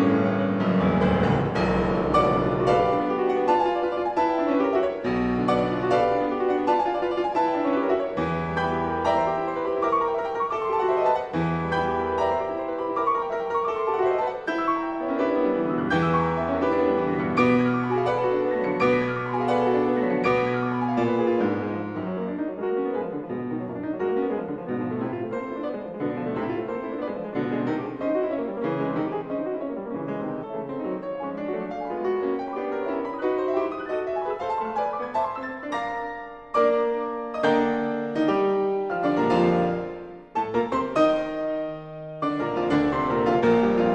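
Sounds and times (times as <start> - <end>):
solo piano piece: 0.0 - 43.9.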